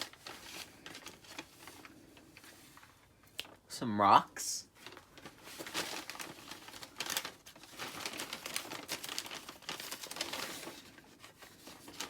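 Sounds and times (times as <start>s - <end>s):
bag crinkling and rustling: 0.0s - 3.6s, 4.7s - 12.0s.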